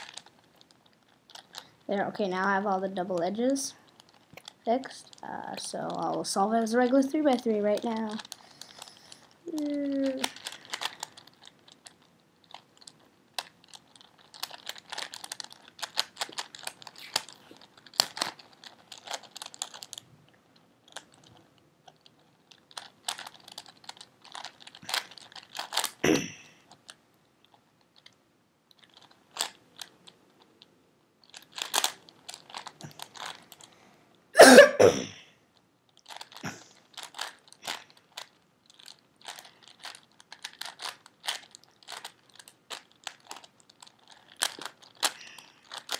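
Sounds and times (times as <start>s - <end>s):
puzzle cube clicking: 0.0s - 1.7s, 3.0s - 20.1s, 20.8s - 26.0s, 28.0s - 30.6s, 31.2s - 33.7s, 36.0s - 45.9s.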